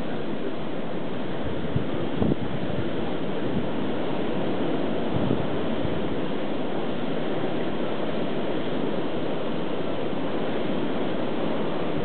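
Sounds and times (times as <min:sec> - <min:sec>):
strong blizzard wind: 0:00.0 - 0:12.0.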